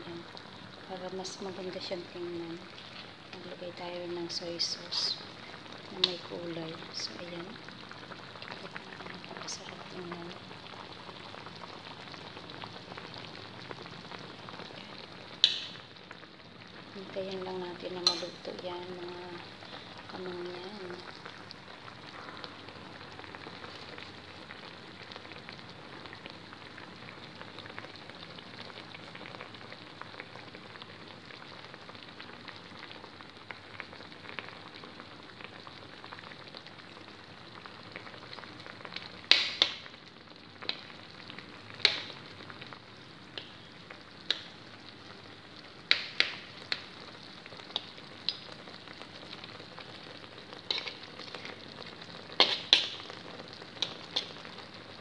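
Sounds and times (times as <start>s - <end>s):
fish simmering in wok: 0.0s - 55.0s.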